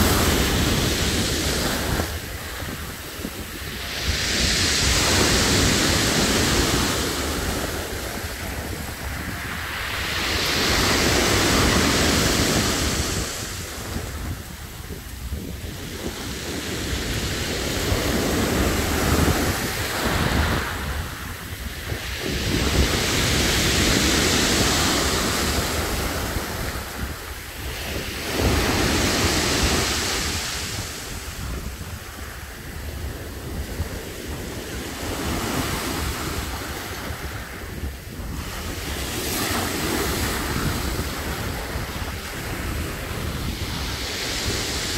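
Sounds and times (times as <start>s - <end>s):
waves breaking on pebble beach: 0.0s - 44.9s.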